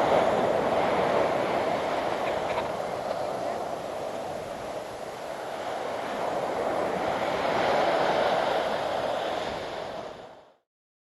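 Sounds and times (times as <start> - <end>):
ocean surf washing on beach: 0.0 - 10.6.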